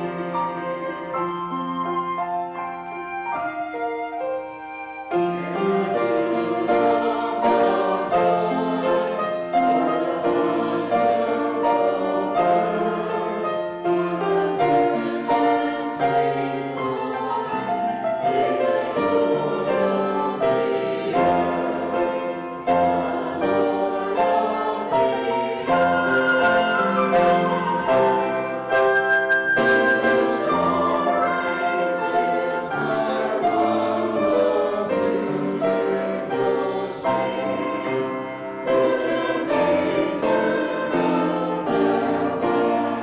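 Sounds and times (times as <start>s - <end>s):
choir singing: 0.0s - 43.0s
piano accompaniment: 0.0s - 43.0s.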